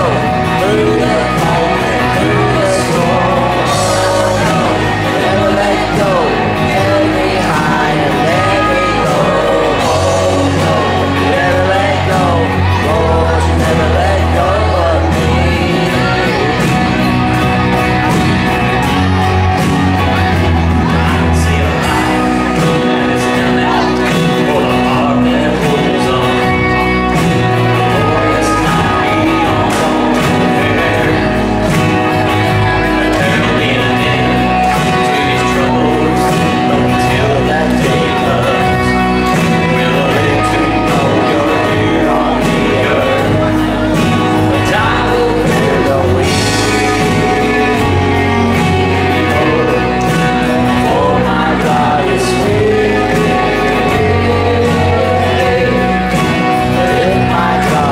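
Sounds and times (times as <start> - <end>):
live rock worship band: 0.0 - 57.9
person singing: 0.0 - 57.9.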